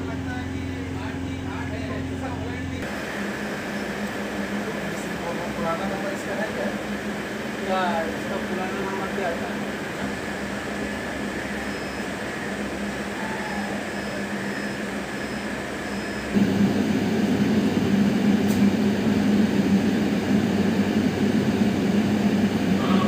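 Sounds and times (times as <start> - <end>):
locomotive cab rumble and hum: 0.0 - 23.0
passenger train noise: 0.0 - 23.0.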